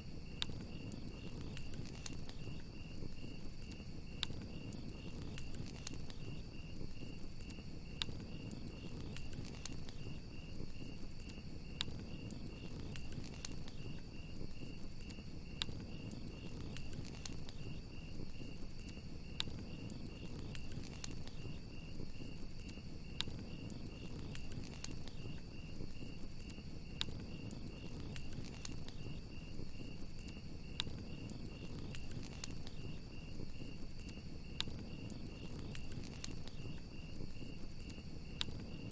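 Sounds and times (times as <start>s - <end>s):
crickets chirping: 0.0s - 38.9s
wood fire crackling: 0.0s - 38.9s.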